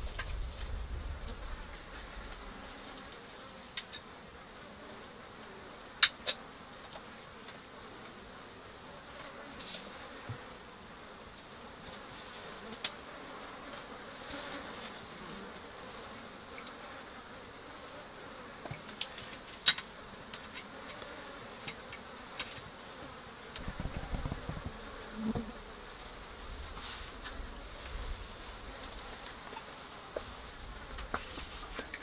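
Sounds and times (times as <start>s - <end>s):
flies buzzing: 0.1s - 32.0s.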